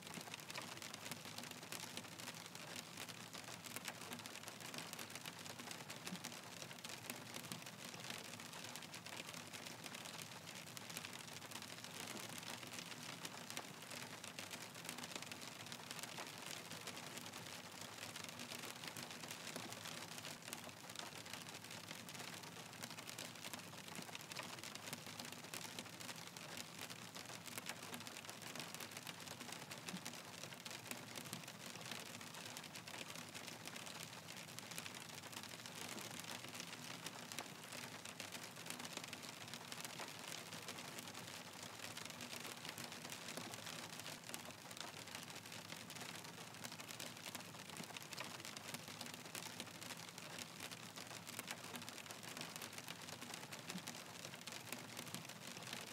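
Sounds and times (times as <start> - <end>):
hailstones clicking and tapping: 0.1 - 55.9.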